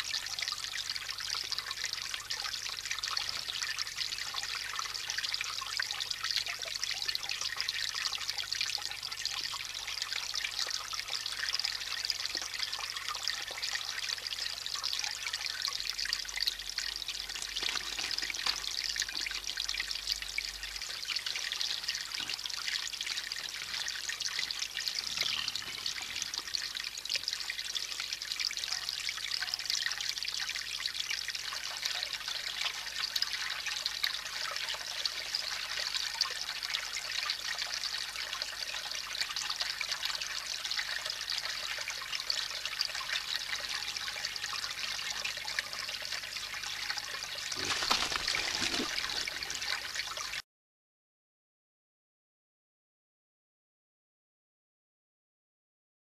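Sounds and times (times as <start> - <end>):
fountain water trickling: 0.0 - 50.4.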